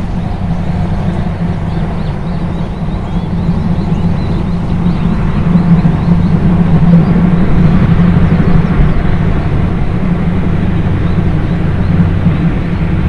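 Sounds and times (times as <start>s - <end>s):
steam locomotive rumbling: 0.0s - 13.0s.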